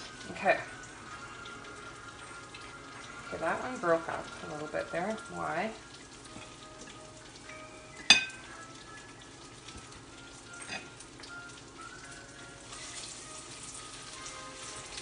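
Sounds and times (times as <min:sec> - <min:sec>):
tofu sizzling in oil: 0:00.0 - 0:15.0.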